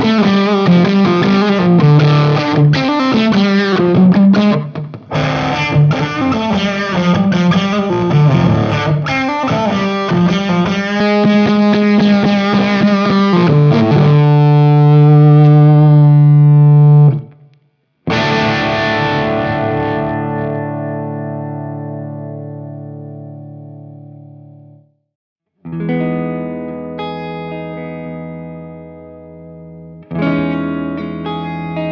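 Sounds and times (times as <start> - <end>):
distorted electric guitar: 0.0 - 24.9, 25.7 - 31.9.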